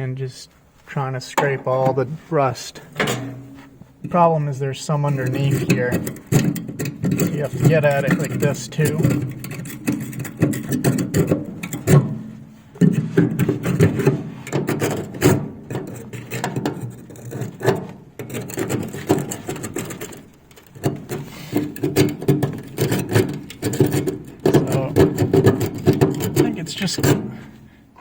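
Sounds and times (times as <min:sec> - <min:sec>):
metal scraper scraping rust: 0:02.9 - 0:03.8, 0:05.1 - 0:27.8.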